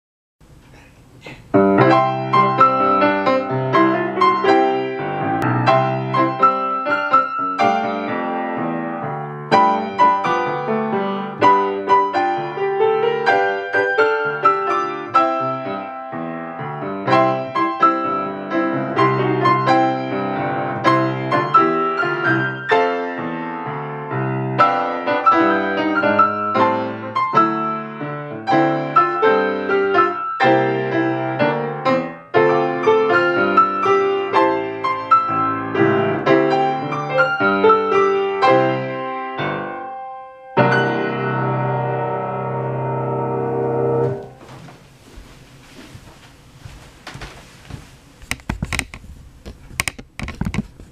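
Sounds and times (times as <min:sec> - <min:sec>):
piano duet: 0:00.7 - 0:45.6.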